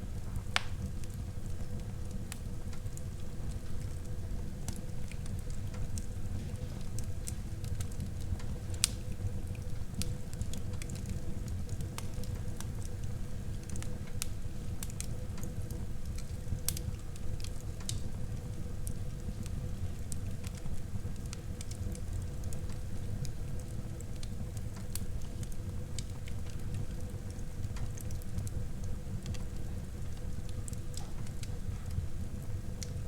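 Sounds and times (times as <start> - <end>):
fire crackling and popping: 0.0 - 33.0
fire flames rumbling: 0.0 - 33.0.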